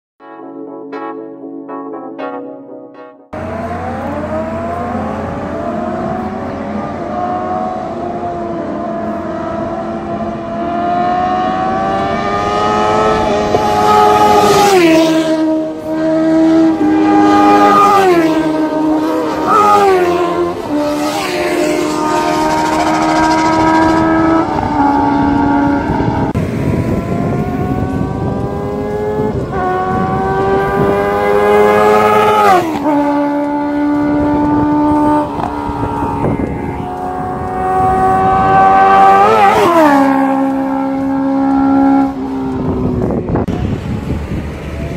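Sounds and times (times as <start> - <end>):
motorcycles accelerating and passing: 3.4 - 44.9.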